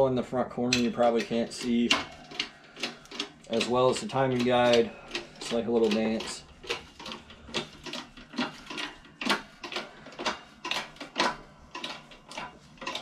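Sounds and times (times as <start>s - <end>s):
hydraulic jack pump clicking: 0.6s - 13.0s.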